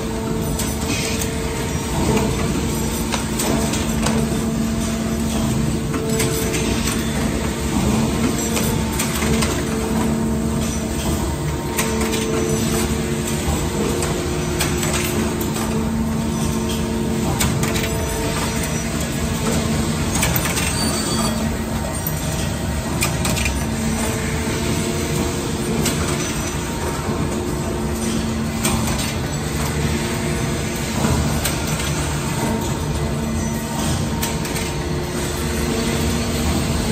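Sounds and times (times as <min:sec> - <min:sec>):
sharp mechanical clicks and clacks: 0:00.3 - 0:24.2, 0:25.1 - 0:36.9.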